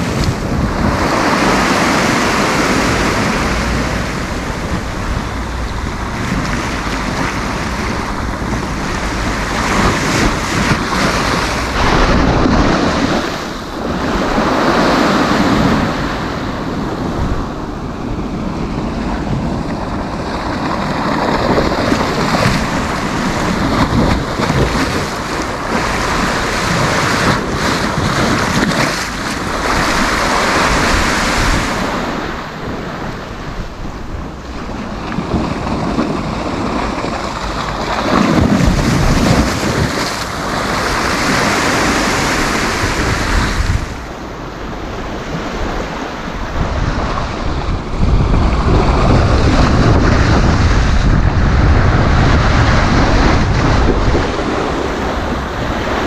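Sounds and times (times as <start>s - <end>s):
waves breaking on a beach: 0.0s - 56.0s
wind buffeting microphone: 0.0s - 56.0s.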